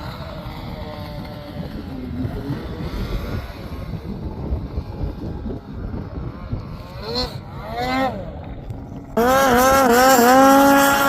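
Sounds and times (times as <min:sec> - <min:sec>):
snowmobile engine drone: 0:00.0 - 0:11.0
wind on microphone: 0:00.0 - 0:11.0.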